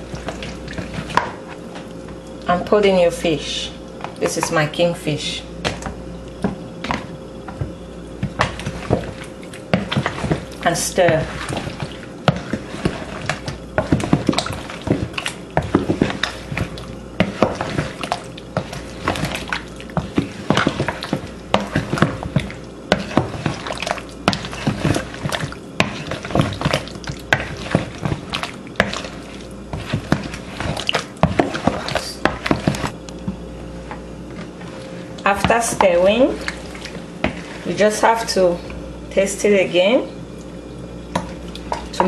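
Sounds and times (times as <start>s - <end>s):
hand stirring oily fish: 0.0s - 2.0s, 5.6s - 38.6s.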